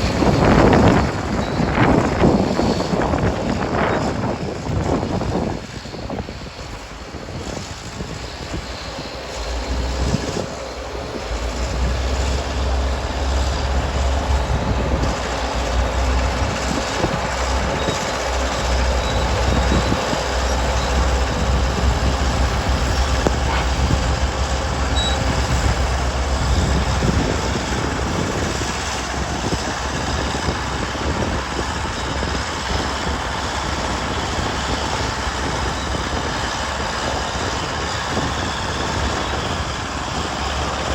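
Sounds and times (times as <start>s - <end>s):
diesel engine rumbling under load: 0.0s - 40.9s.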